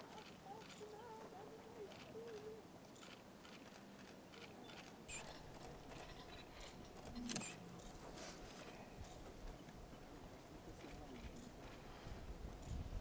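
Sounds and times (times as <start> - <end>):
faint clicks and rustles: 0.0 - 13.0.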